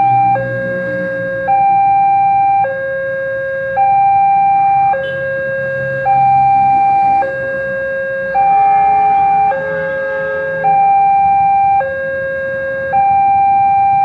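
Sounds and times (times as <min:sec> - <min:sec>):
level crossing two-tone alarm: 0:00.0 - 0:14.0.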